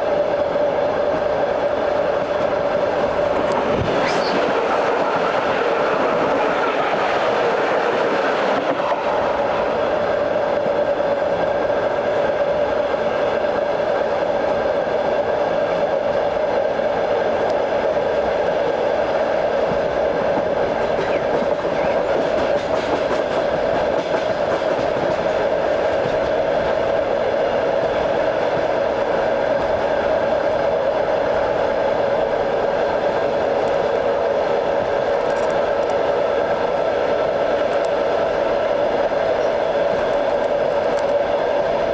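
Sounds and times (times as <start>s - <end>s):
train rumble and wheel noise: 0.0s - 41.9s.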